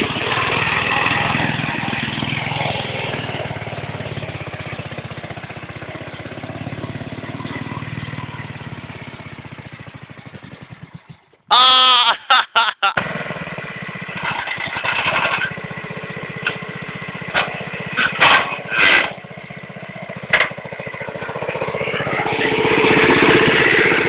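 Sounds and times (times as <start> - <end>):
tractor engine running: 0.0 - 11.6, 12.9 - 24.0.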